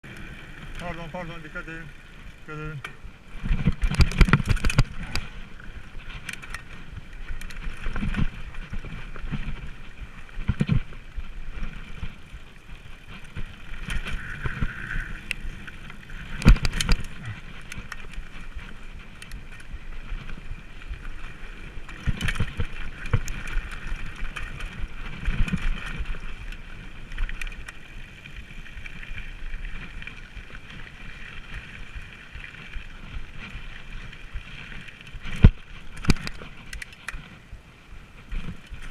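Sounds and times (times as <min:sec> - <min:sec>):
wind and tyre noise: 0:00.0 - 0:38.9
bike rattling and knocking: 0:02.5 - 0:28.0, 0:29.7 - 0:37.3.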